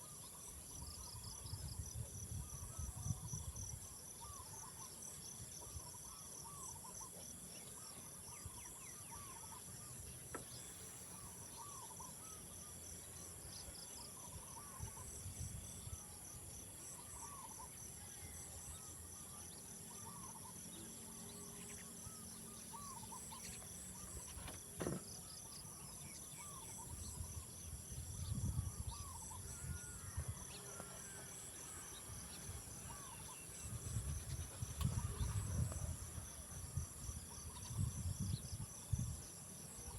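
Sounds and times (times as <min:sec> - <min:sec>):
insects and crickets singing: 0:00.0 - 0:39.9.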